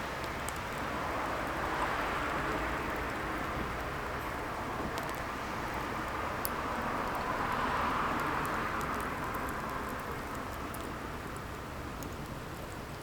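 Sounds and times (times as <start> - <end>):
fire crackles and pops: 0.0 - 13.0.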